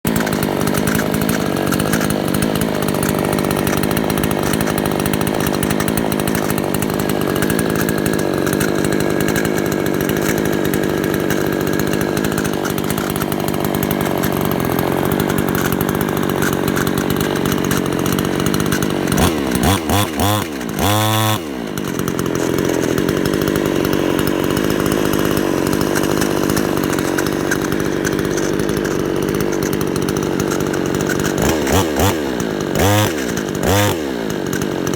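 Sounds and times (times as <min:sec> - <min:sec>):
engine running with rattle: 0:00.0 - 0:34.9.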